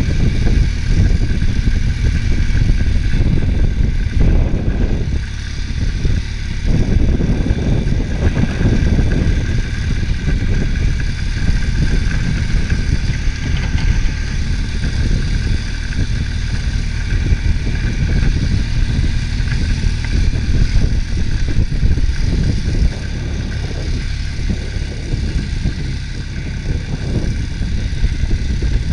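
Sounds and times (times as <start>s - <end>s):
atv engine running: 0.0s - 28.9s.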